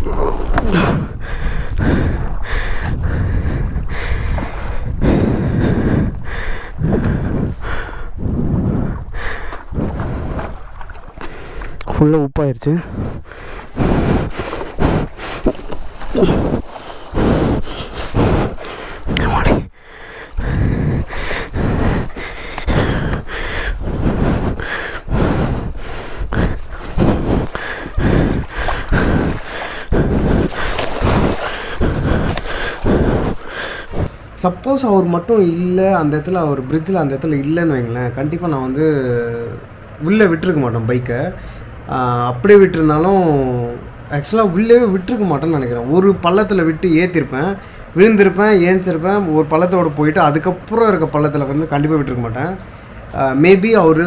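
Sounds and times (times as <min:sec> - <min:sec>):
heavy rhythmic breathing: 0:00.0 - 0:11.9, 0:12.6 - 0:40.0, 0:46.7 - 0:54.0.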